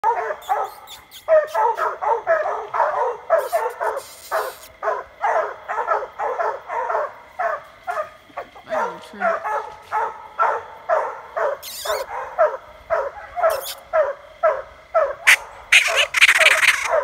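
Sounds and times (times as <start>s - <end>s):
hounds barking rapidly: 0.0s - 17.0s.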